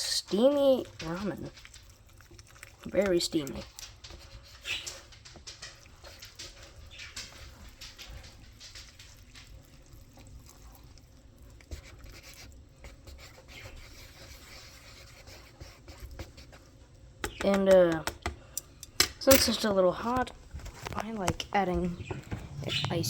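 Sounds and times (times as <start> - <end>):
light rustling of handling: 0.2 - 23.0.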